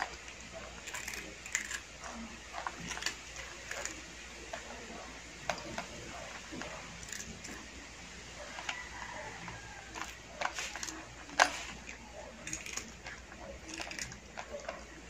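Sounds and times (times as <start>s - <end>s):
cat crunching dry snacks: 0.0s - 15.0s.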